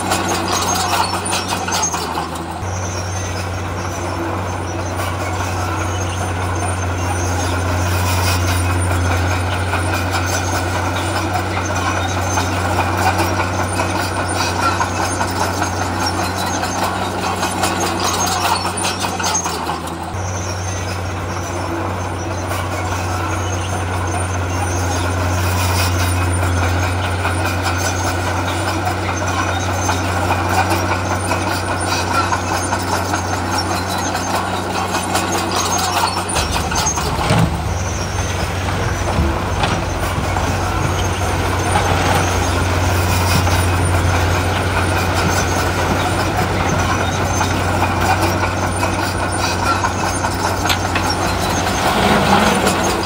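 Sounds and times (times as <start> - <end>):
clatter: 0.0 - 4.2, 4.8 - 21.6, 22.3 - 53.0
heavy diesel machinery running: 0.0 - 53.0.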